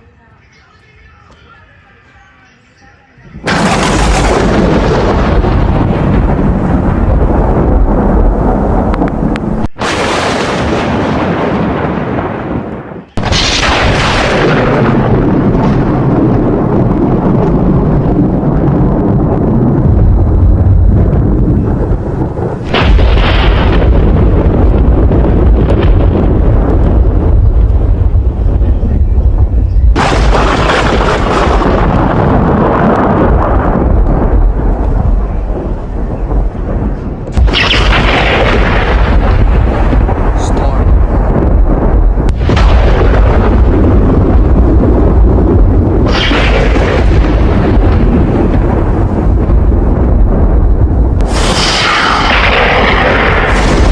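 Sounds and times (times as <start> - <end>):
storm noise: 3.2 - 53.9
thunder cracks rumbling: 3.3 - 53.9.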